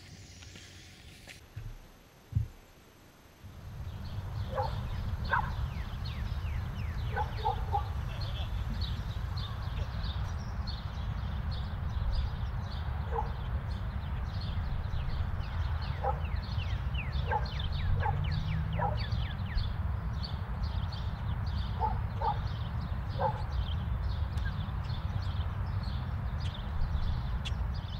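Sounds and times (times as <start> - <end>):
steady low rumble: 1.8 - 27.9
birds chirping: 3.4 - 27.9.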